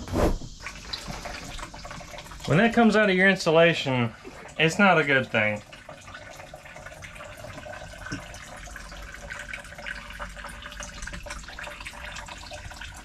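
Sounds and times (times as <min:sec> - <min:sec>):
patter of small drips: 0:00.6 - 0:13.0
water trickling into plastic tub: 0:00.6 - 0:13.0.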